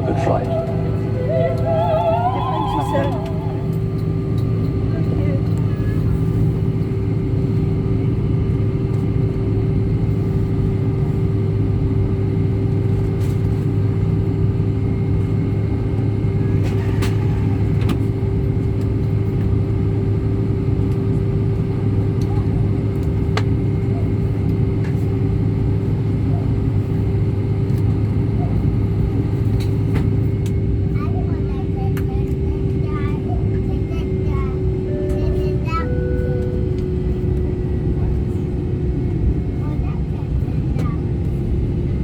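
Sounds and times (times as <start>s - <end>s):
airplane cabin rumble taxiing: 0.0s - 42.0s
engine hum: 0.0s - 42.0s.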